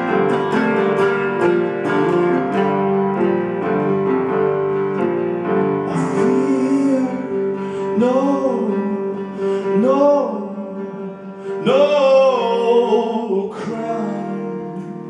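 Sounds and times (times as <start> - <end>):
live band music: 0.0 - 12.8
wordless melody line: 0.0 - 15.0.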